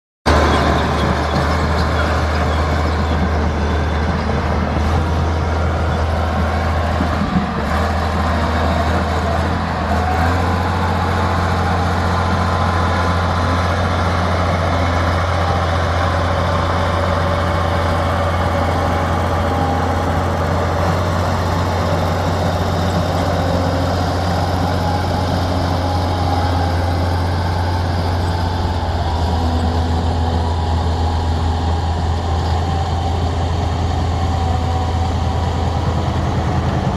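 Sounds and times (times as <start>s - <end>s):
bulldozer diesel engine running: 0.3s - 36.9s.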